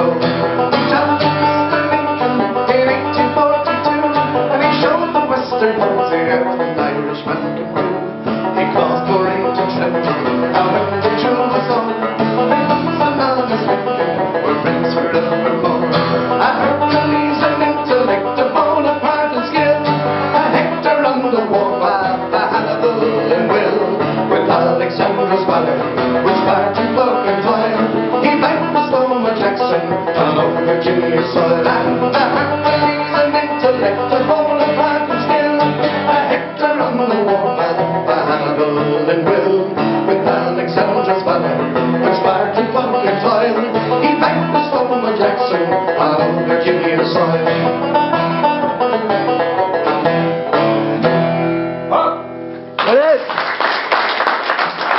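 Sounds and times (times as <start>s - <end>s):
banjo picking quick notes: 0.0s - 52.7s
strummed acoustic guitar: 0.0s - 52.8s.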